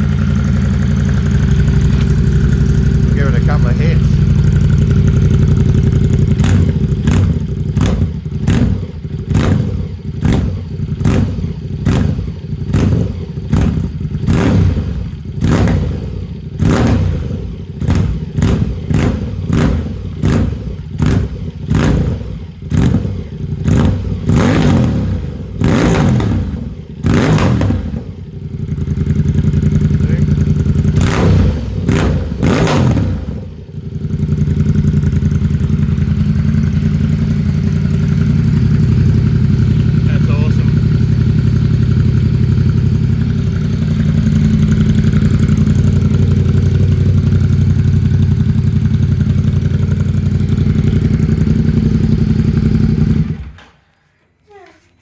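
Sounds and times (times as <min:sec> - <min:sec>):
motorcycle engine idling: 0:00.0 - 0:53.6
motorcycle engine revving: 0:00.0 - 0:53.8.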